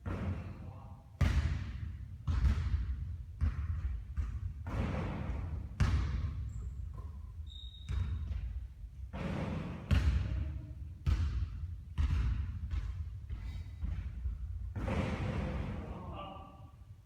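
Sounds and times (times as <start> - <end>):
basketball bouncing on court: 0.0 - 15.9.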